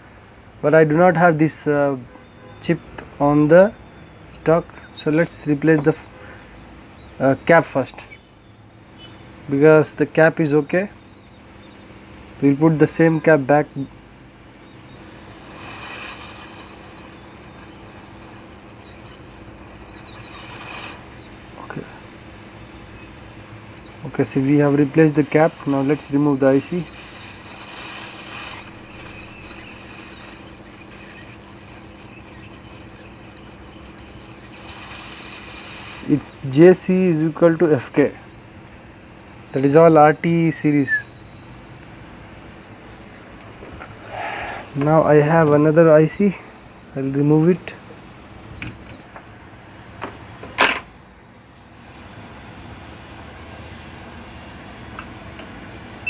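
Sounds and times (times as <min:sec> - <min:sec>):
faint high wavering squeaks: 0:00.0 - 0:49.1
low fan hum: 0:00.0 - 0:50.4
hot air blower hiss: 0:00.0 - 0:50.9.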